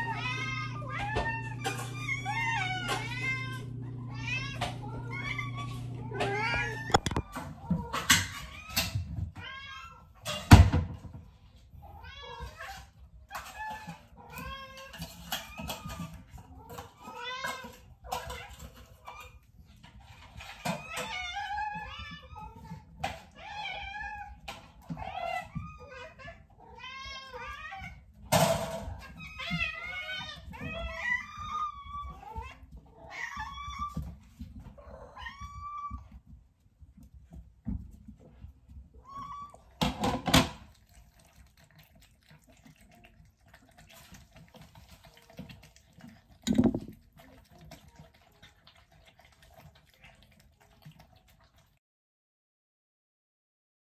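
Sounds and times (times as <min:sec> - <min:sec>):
cats meowing: 0:00.0 - 0:10.7, 0:11.4 - 0:36.4, 0:38.2 - 0:49.0.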